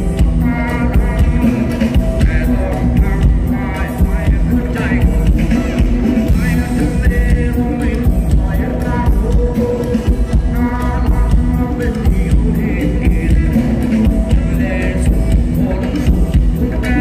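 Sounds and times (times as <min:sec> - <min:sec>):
drum kit: 0:00.0 - 0:17.0
electric guitars: 0:00.0 - 0:17.0
person singing: 0:00.0 - 0:17.0.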